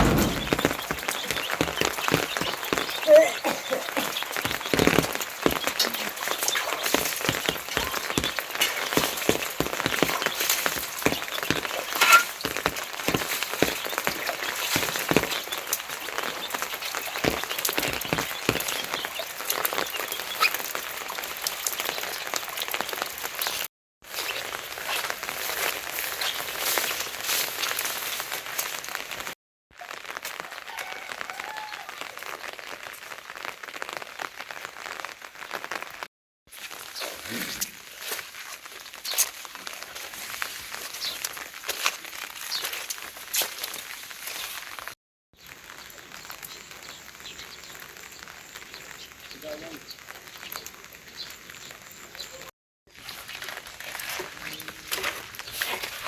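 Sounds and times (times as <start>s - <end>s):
heavy rain falling: 0.0s - 43.2s, 44.6s - 52.5s.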